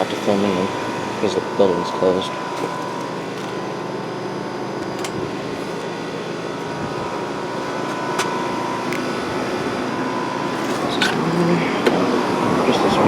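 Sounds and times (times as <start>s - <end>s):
air conditioner fan rush: 0.0s - 13.0s
compressor hum: 0.0s - 13.0s.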